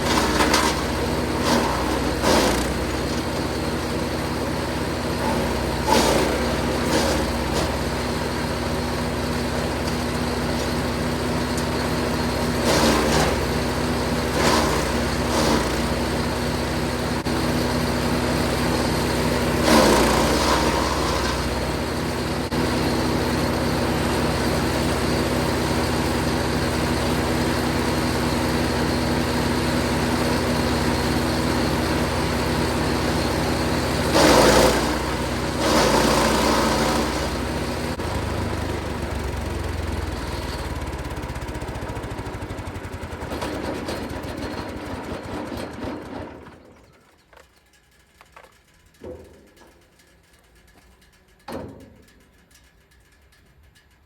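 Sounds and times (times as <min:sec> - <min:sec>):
wood chipper running: 0:00.0 - 0:52.4.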